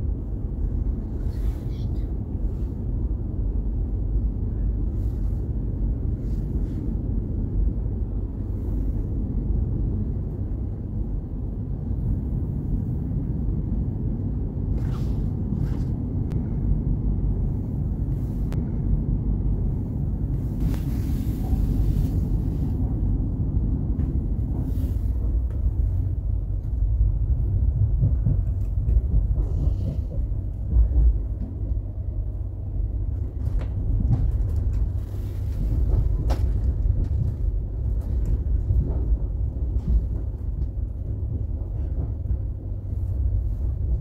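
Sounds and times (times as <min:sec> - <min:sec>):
train rumbling on rails: 0:00.0 - 0:44.0.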